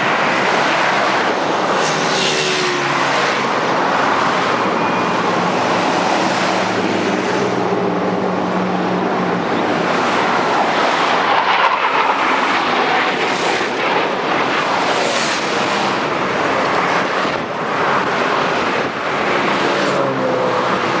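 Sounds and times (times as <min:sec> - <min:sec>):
hissing swells: 0:00.0 - 0:20.1
military aircraft engine rushing: 0:00.0 - 0:21.0.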